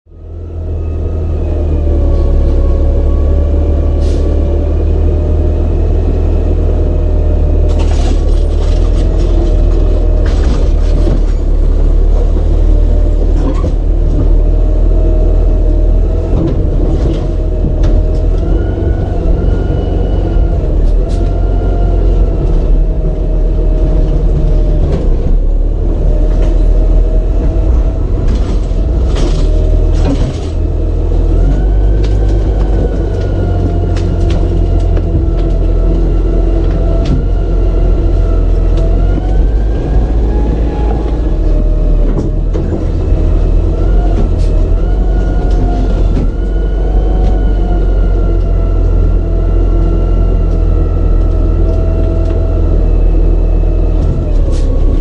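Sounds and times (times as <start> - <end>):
garbage truck diesel engine: 0.0 - 55.0.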